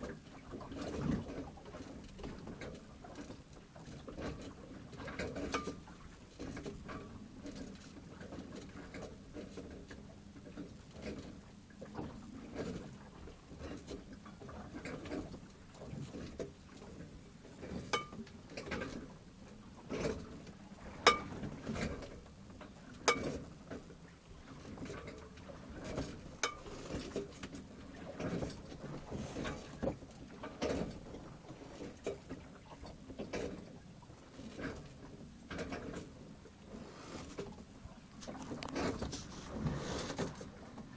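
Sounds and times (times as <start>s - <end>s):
water sloshing against hull: 0.0s - 40.9s.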